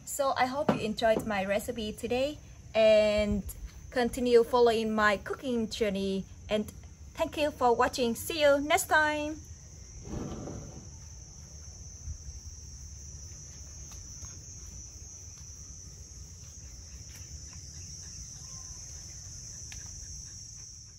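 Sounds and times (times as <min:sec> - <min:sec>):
high-pitched insect chorus: 0:00.0 - 0:20.9.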